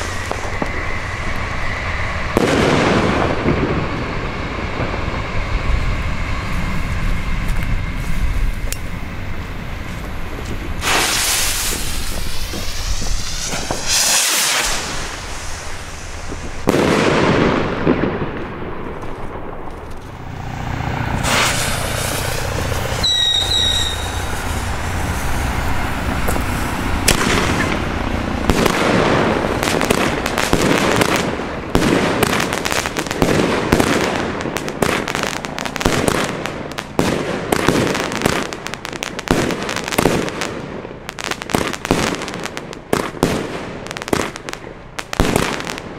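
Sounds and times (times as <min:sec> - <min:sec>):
fireworks launching whooshes: 0:00.0 - 0:08.8, 0:09.9 - 0:45.9
firework whistle: 0:00.0 - 0:40.6
fireworks bursting and crackling: 0:00.0 - 0:45.9.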